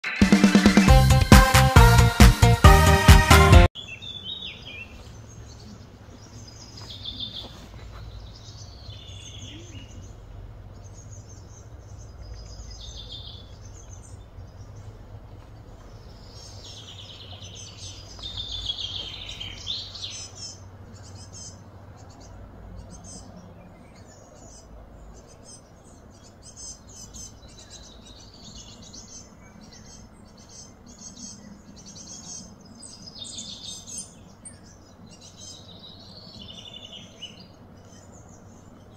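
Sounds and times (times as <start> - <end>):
birds chirping and calling: 3.8 - 38.9
low background hum: 4.2 - 38.9.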